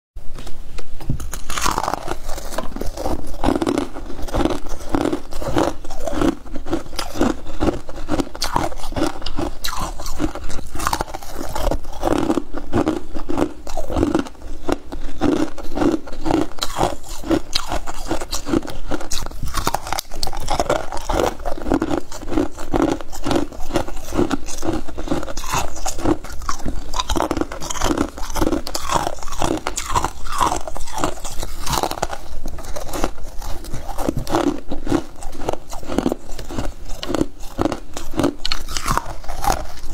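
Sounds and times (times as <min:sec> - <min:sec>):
ice chunks crunching: 0:01.3 - 0:39.9.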